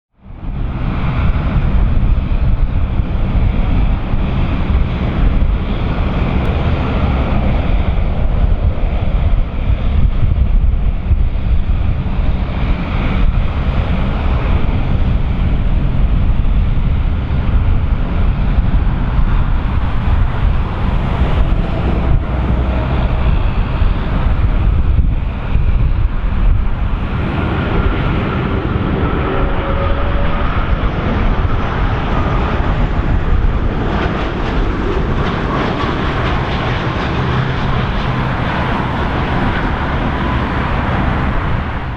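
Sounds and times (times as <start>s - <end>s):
faint engine whine: 0.2s - 41.9s
jet engines rumbling: 0.2s - 41.9s
wind buffeting microphone: 0.2s - 41.9s.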